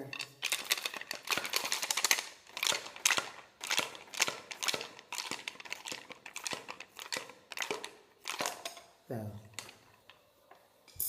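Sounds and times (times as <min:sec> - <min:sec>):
tool clicking and scraping in bamboo tube: 0:00.0 - 0:10.6.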